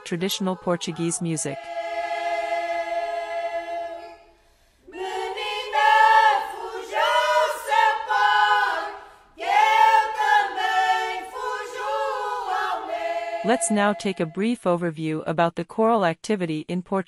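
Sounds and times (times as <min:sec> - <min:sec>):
women's choir singing a cappella: 0:00.0 - 0:14.4.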